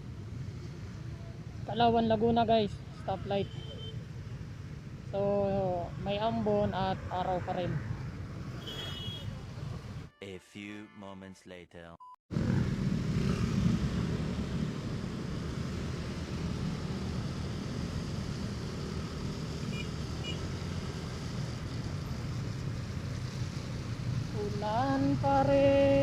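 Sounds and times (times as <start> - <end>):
road noise: 0.0 - 10.1, 12.3 - 26.0.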